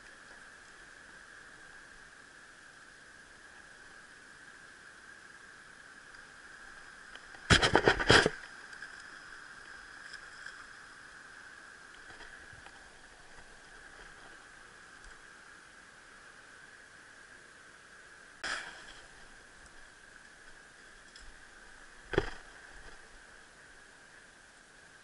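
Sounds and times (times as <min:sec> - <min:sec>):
faint high hum: 0:00.0 - 0:25.0.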